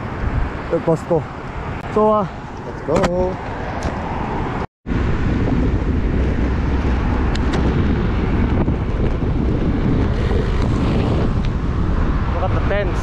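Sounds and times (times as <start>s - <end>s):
city traffic noise: 0.0s - 13.0s
wind rushing over microphone: 0.0s - 13.0s.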